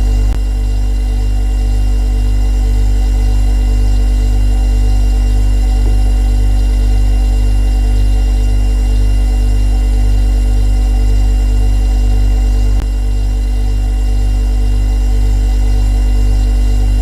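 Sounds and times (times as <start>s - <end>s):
refrigerator compressor humming: 0.0s - 17.0s.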